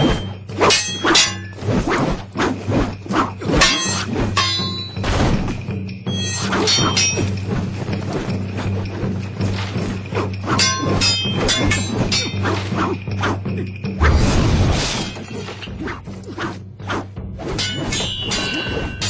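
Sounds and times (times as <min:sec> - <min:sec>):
weapon swings whooshing: 0:00.0 - 0:05.6, 0:06.2 - 0:13.4, 0:14.0 - 0:19.0
metal blades clashing: 0:00.0 - 0:16.6, 0:17.4 - 0:19.0
droning music score: 0:00.0 - 0:19.0.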